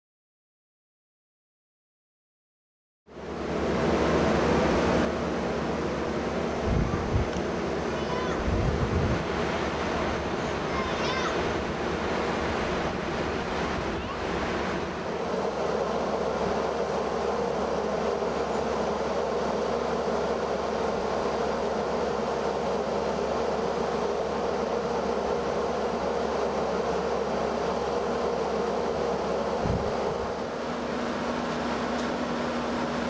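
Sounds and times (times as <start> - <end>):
diesel railcar engine idling: 3.1 - 33.0.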